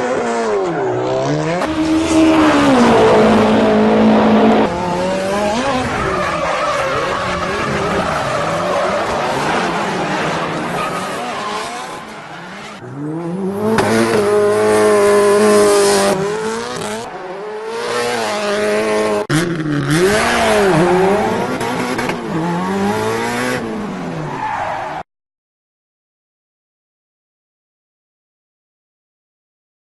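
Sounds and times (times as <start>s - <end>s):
race car engine revving: 0.0s - 24.8s.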